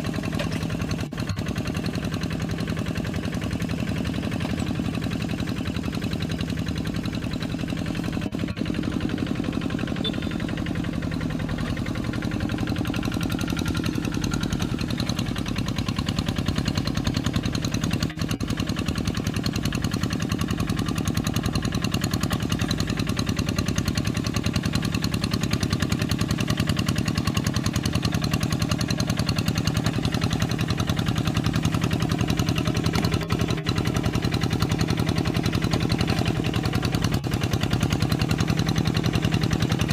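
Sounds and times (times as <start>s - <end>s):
diesel engine clattering: 0.0s - 39.9s.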